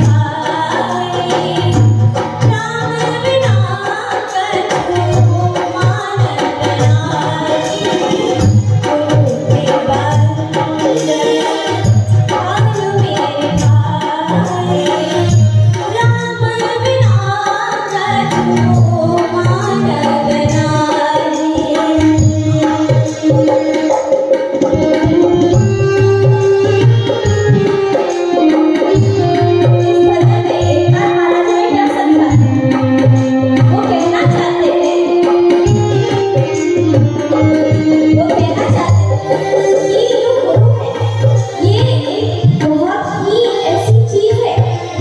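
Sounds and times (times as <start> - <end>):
dholak drum beating: 0.0 - 45.0
keyboard accompaniment: 0.0 - 45.0
woman singing into a microphone: 0.0 - 45.0.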